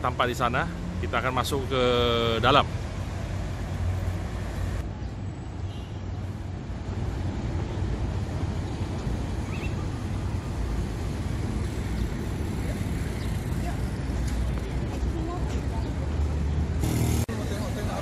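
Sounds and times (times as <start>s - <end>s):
low rumble of outdoor noise: 0.0s - 18.0s.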